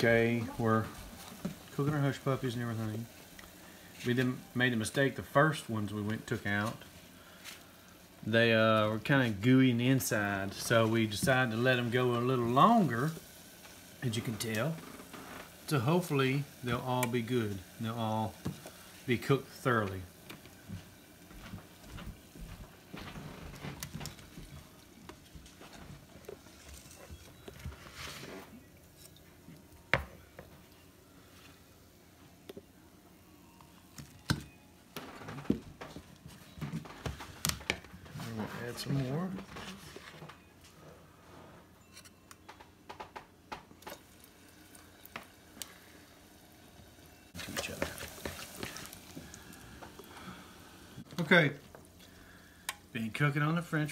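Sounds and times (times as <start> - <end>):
hot oil crackling: 0.0 - 32.7, 43.4 - 53.9.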